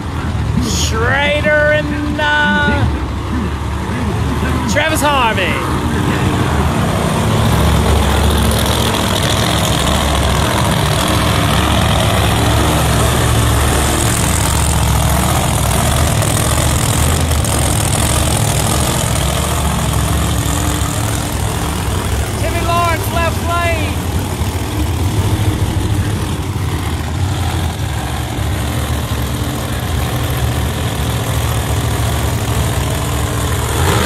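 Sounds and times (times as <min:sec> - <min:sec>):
race car engine idling: 0:00.0 - 0:34.0.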